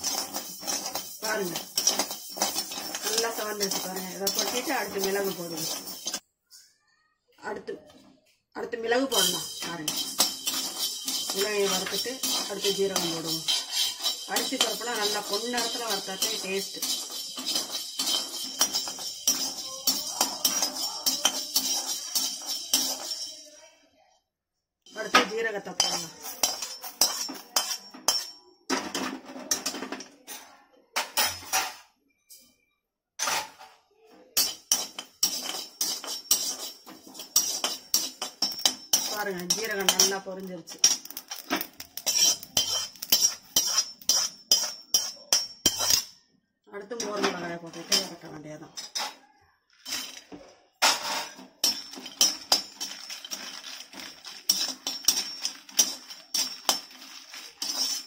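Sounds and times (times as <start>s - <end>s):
metal spatula scraping a pan: 0.0s - 6.7s, 8.9s - 23.5s, 24.9s - 32.5s, 33.2s - 46.2s, 46.8s - 49.2s, 49.8s - 58.0s.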